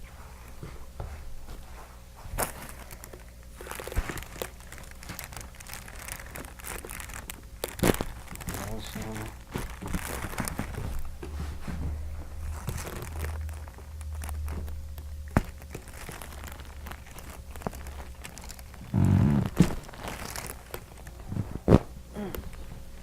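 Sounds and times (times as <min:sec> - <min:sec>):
rustling and shifting on a table: 0:00.0 - 0:06.9, 0:07.8 - 0:21.9.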